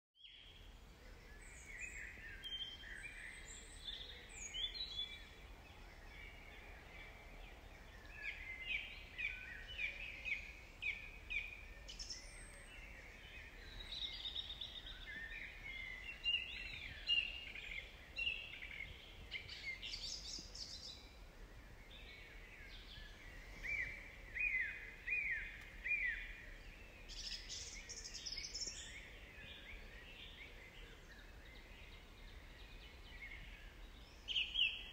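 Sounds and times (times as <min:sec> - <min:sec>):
small birds chirping and singing: 0:00.2 - 0:34.9.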